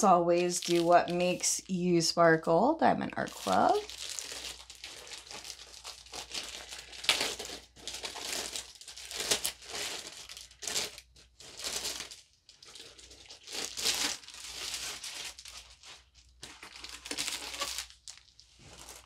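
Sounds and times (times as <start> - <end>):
plastic wrapping crinkling: 0.0 - 1.8, 3.1 - 19.0.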